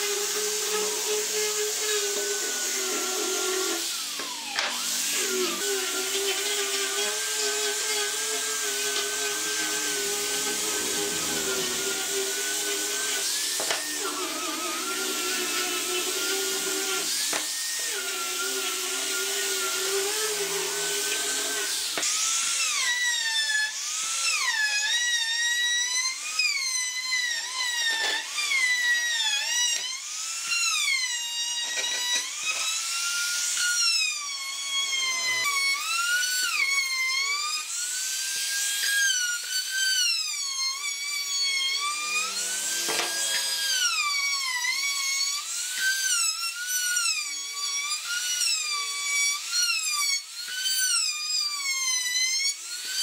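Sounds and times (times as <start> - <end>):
angle grinder sanding wood: 0.0 - 53.0
trim router whining: 0.0 - 53.0.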